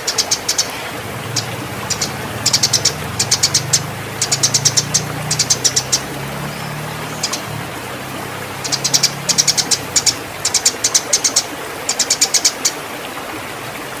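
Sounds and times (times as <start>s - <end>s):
sparrow chirping: 0.0s - 7.5s, 8.6s - 12.7s.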